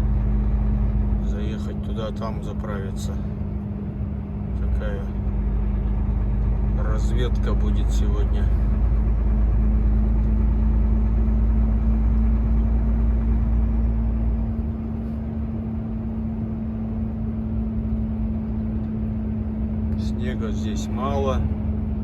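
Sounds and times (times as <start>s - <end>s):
deep low rumble: 0.0s - 22.0s
truck engine and road hum: 0.0s - 22.0s.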